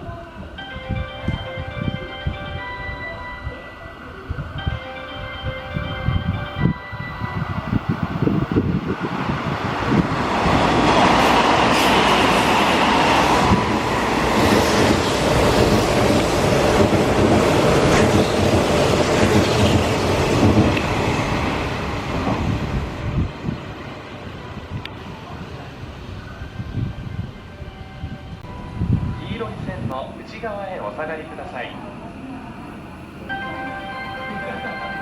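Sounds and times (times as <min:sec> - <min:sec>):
electric train passing: 0:00.0 - 0:35.0.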